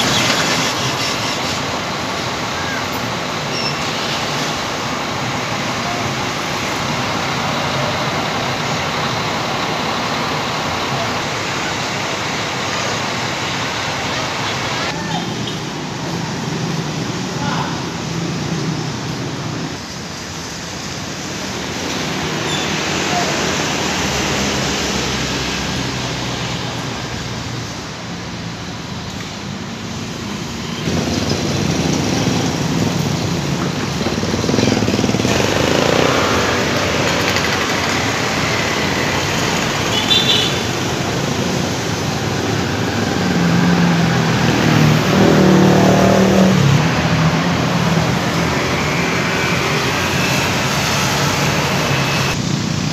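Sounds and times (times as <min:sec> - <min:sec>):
bus engines running: 0:00.0 - 0:52.9
traffic noise: 0:00.0 - 0:52.9.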